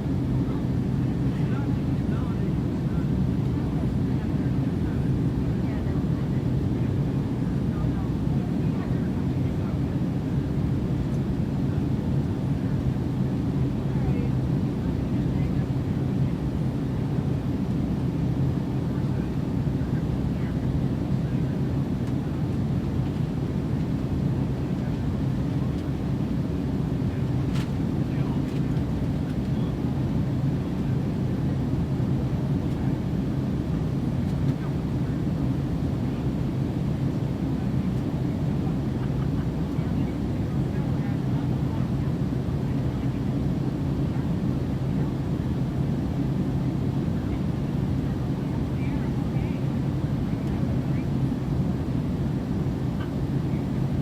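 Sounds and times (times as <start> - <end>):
airplane engine rumble: 0.0 - 54.0.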